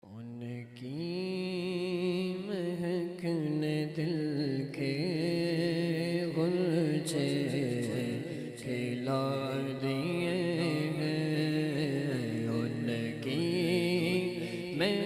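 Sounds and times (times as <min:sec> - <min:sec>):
man singing a cappella: 0:00.0 - 0:15.0.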